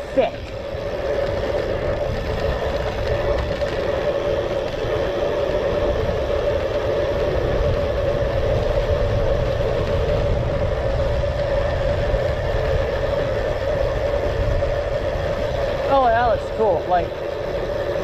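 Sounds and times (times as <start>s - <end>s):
steady mid-pitched hum: 0.0s - 18.0s
wind buffeting microphone: 0.0s - 18.0s.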